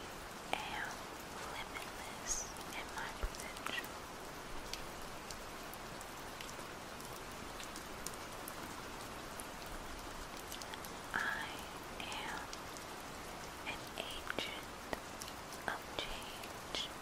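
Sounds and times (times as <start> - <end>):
steady rain: 0.0 - 17.0
faint raindrop clicks: 0.4 - 17.0.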